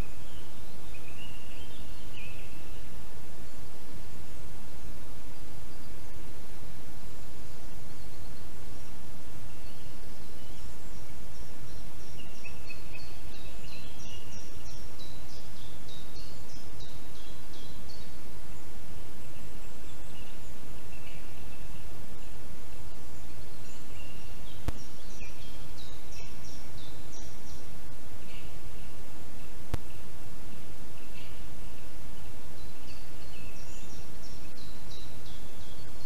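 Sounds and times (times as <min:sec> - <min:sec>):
steady microphone hiss: 0:00.0 - 0:36.0.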